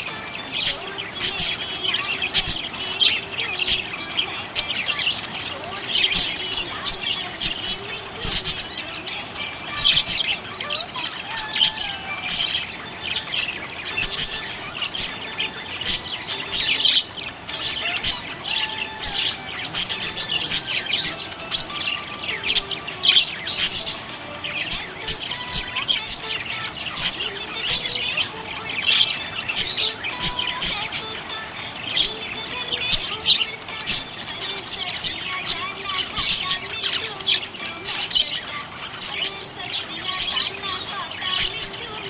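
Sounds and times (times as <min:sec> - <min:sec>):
budgerigars chirping: 0:00.0 - 0:42.0.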